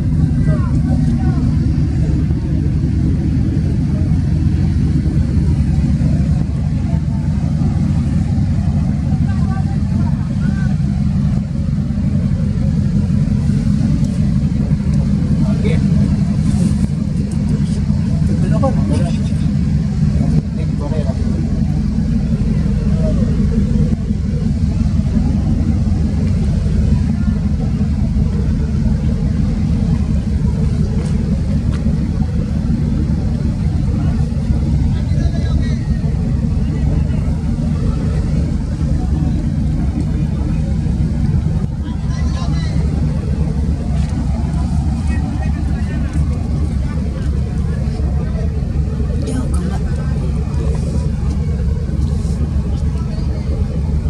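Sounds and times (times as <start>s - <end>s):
boat engine rumbling: 0.0s - 54.0s.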